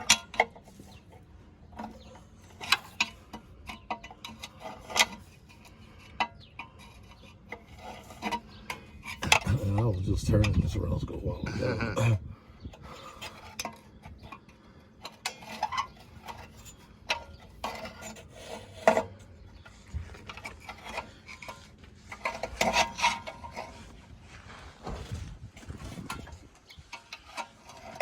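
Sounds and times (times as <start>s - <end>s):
rubbing and scraping: 0.0s - 12.0s, 12.8s - 28.0s.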